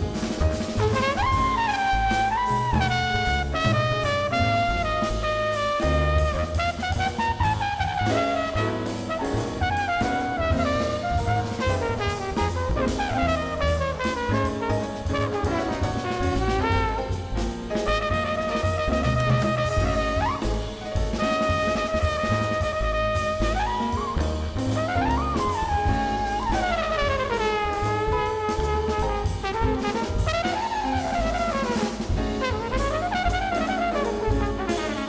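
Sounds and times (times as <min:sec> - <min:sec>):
drum kit: 0:00.0 - 0:35.0
string bass: 0:00.0 - 0:35.0
horn solo: 0:00.1 - 0:35.0.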